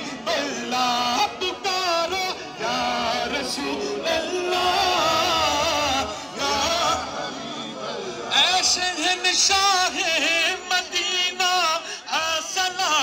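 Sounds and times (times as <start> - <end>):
men singing a devotional chant: 0.0 - 13.0.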